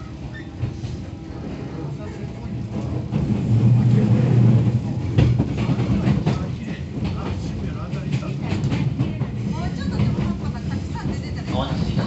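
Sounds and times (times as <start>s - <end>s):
electric train running rumble: 0.0s - 12.0s.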